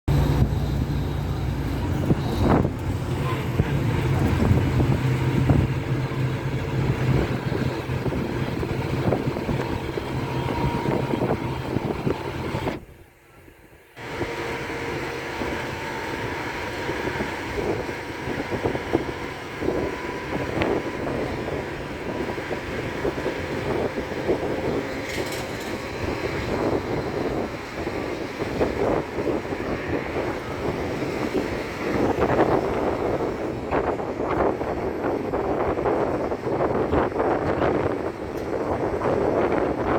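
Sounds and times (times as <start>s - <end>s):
moving vehicle rumbling: 0.0s - 39.9s.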